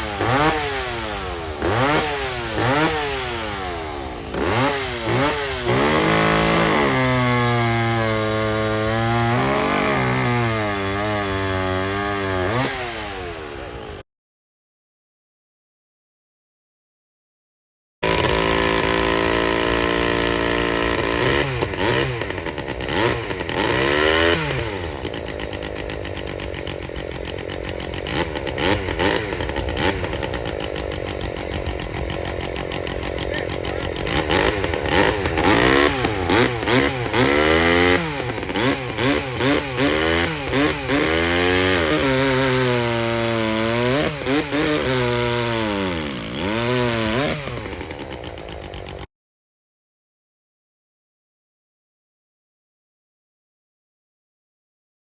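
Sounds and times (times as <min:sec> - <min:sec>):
chainsaw engine revving: 0:00.0 - 0:14.0, 0:18.0 - 0:49.1.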